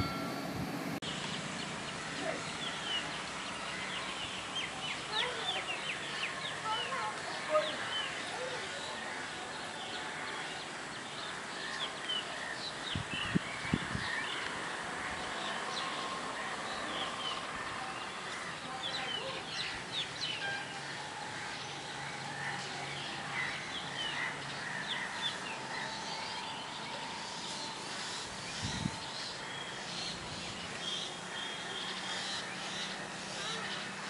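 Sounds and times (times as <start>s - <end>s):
steady outdoor hiss: 0.0s - 34.0s
small birds chirping: 1.0s - 34.0s.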